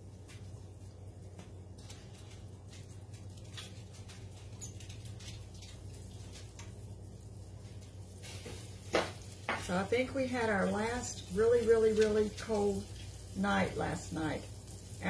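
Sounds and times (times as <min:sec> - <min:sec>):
steady low hum: 0:00.0 - 0:15.0
steak crackling in oil: 0:00.0 - 0:15.0.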